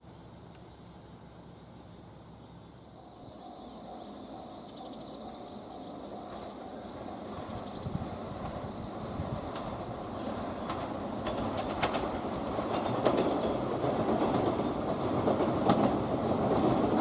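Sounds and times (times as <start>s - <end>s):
insects chirping: 0.0s - 15.9s
train rumble: 1.0s - 17.0s.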